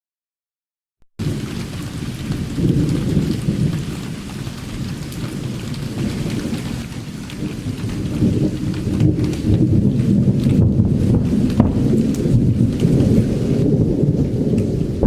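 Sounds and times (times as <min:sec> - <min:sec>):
heavy rain: 0:01.2 - 0:15.0
thunder rumbling: 0:01.2 - 0:15.0.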